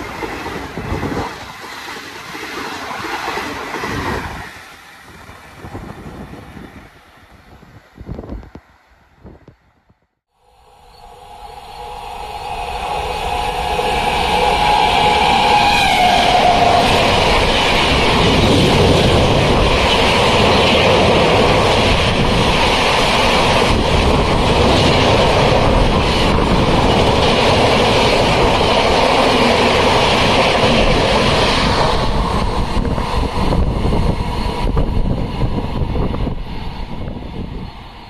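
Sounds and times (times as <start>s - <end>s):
passenger train rushing past: 0.0s - 38.0s.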